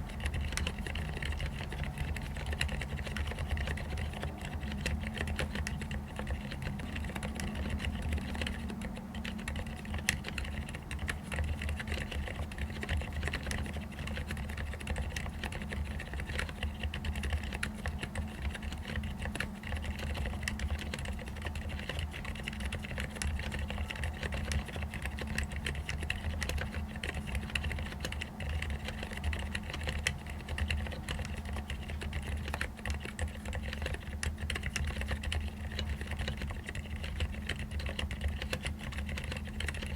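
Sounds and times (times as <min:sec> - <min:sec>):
soft keyboard typing: 0:00.0 - 0:39.9
steady low hum: 0:00.0 - 0:39.9.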